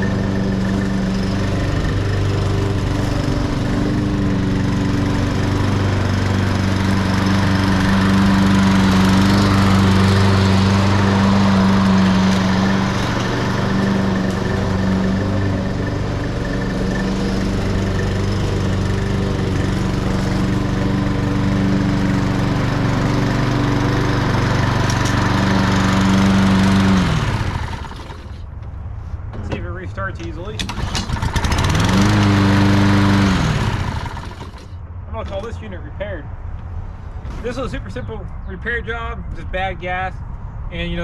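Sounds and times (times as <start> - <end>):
lawn mower engine shutting off: 0.0 - 28.5, 30.3 - 35.4
lawn mower engine running: 0.0 - 28.6, 30.1 - 35.5.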